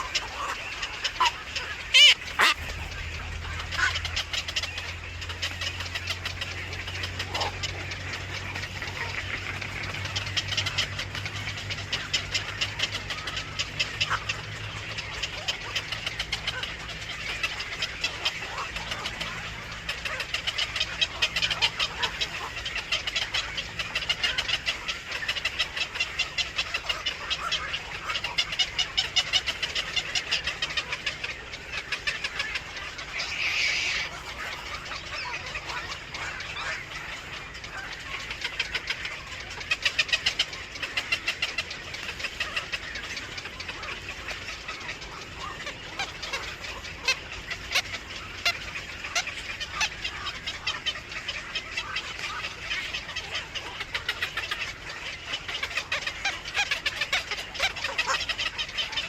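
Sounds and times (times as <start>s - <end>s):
baby birds cheeping: 0.0s - 59.0s.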